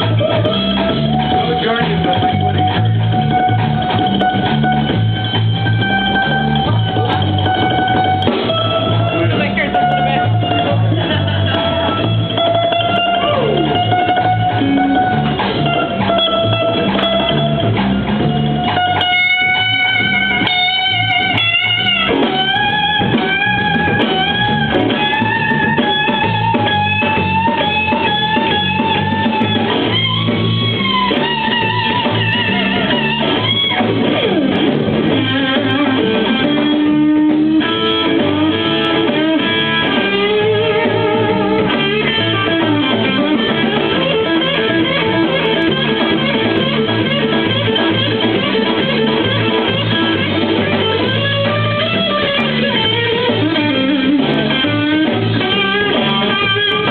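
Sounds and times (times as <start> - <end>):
blues band jamming: 0.0 - 56.9
electric guitar lead with bends: 0.0 - 56.9.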